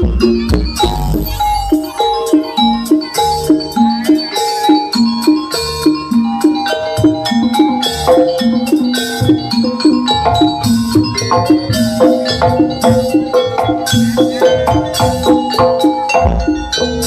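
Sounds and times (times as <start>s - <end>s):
drum strokes: 0.0s - 17.0s
metallophones playing fast melody: 0.0s - 17.0s.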